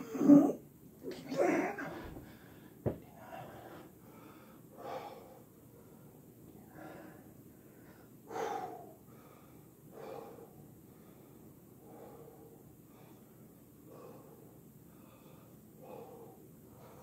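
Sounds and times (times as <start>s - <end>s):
man breathing hard: 1.6s - 17.0s.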